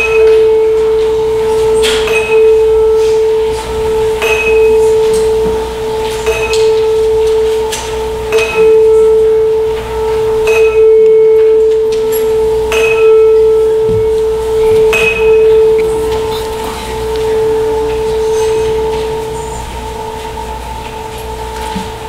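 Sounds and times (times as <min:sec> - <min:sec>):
bell tolling: 0:00.0 - 0:22.0
low bell hum ringing: 0:00.0 - 0:22.0.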